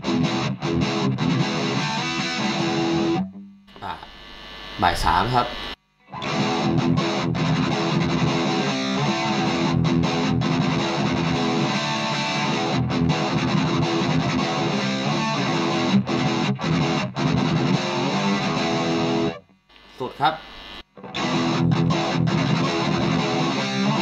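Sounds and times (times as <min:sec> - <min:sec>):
distorted electric guitar chords: 0:00.0 - 0:24.0.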